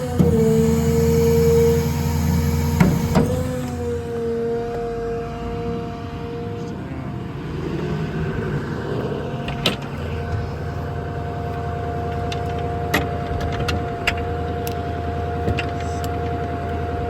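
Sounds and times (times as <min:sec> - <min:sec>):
diesel engine drone: 0:00.0 - 0:17.0
hydraulic pump whine: 0:00.0 - 0:17.0.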